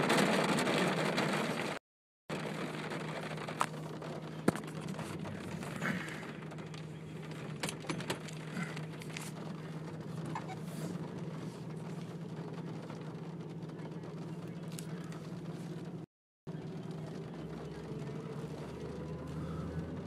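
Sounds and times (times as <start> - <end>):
car engine humming: 0.0 - 20.0
rain on car windshield and roof: 0.0 - 20.0
raindrops ticking on glass: 0.0 - 20.0.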